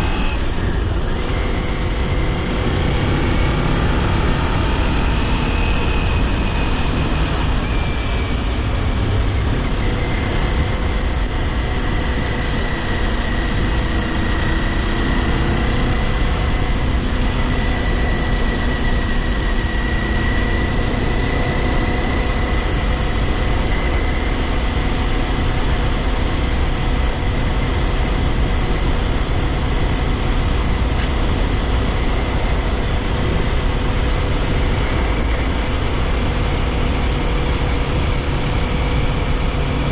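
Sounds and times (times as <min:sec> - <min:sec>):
motorcycle engine cruising: 0:00.0 - 0:39.9
road noise: 0:00.0 - 0:39.9
wind noise: 0:00.0 - 0:39.9.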